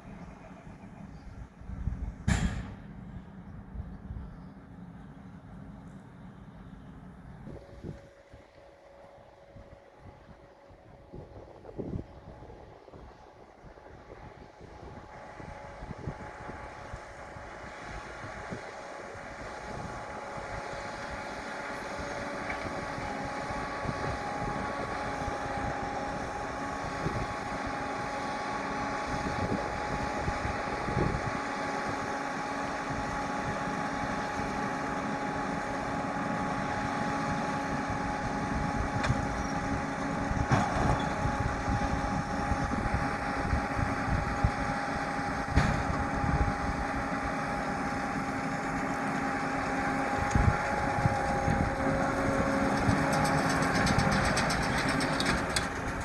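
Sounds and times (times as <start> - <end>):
round baler whine: 0.0 - 56.0
tractor diesel engine under load: 0.0 - 56.0.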